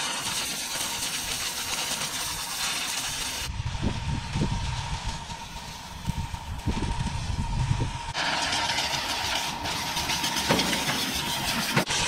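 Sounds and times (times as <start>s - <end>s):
sawmill machinery hissing: 0.0s - 12.0s.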